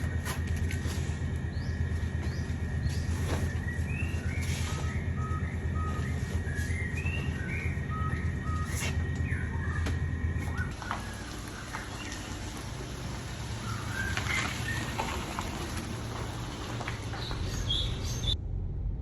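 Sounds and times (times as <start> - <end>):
small birds chirping: 0.0 - 18.4
steady low rumble: 0.0 - 19.0.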